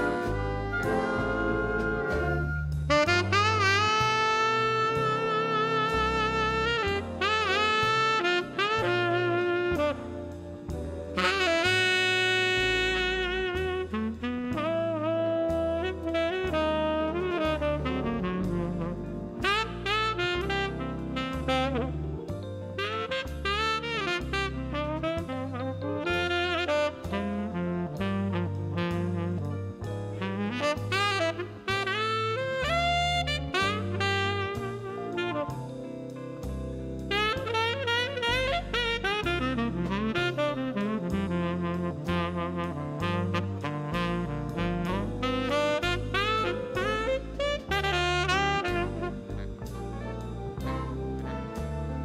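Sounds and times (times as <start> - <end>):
bass: 0.0 - 52.0
big band jazz: 0.0 - 52.0
drums: 0.0 - 52.0
saxophone lead line: 0.0 - 52.0.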